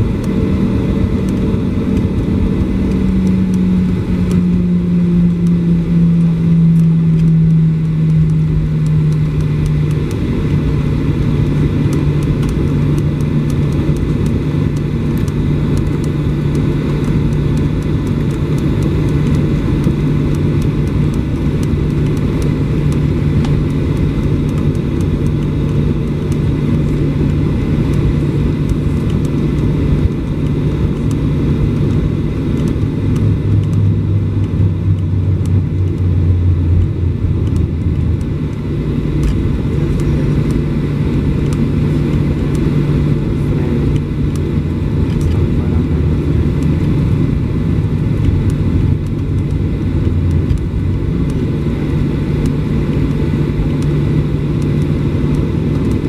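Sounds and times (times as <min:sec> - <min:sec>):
jet engines humming and rumbling: 0:00.0 - 0:56.0
low engine tone: 0:00.0 - 0:56.0.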